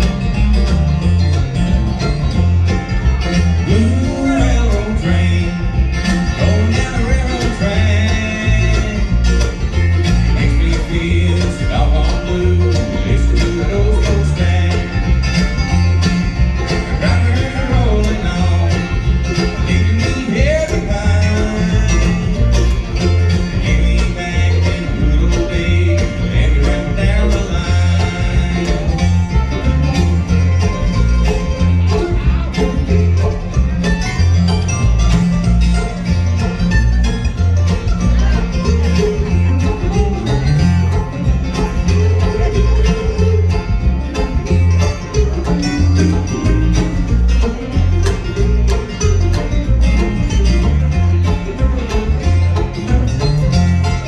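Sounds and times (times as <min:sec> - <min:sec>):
banjo picking: 0:00.0 - 0:54.0
bass line: 0:00.0 - 0:54.0
guitar picking: 0:00.0 - 0:54.0.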